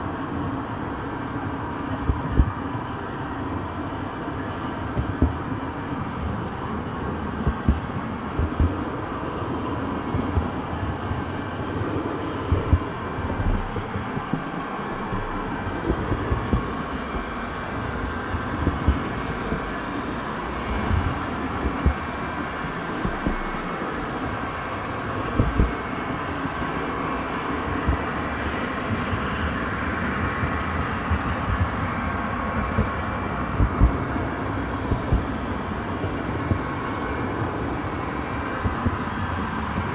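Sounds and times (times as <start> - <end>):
train rumbling along track: 0.0 - 39.9
low thumps of train: 2.0 - 3.4, 4.8 - 39.9.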